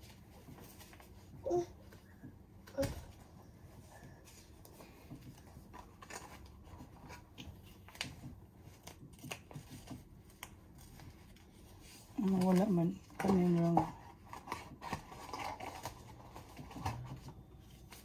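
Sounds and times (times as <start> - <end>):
hands handling supplies clicks and rustles: 0.0 - 18.0.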